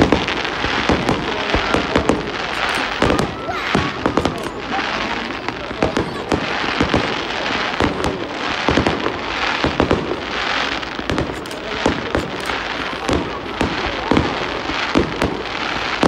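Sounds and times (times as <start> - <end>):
firework shells bursting: 0.0 - 16.0
fireworks crackling: 0.0 - 16.0.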